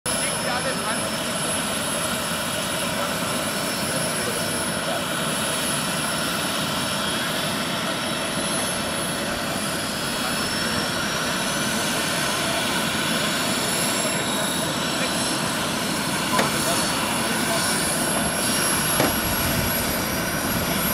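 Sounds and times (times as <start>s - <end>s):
rising turbine whine: 0.1s - 20.9s
turbine engine whine: 0.1s - 20.9s.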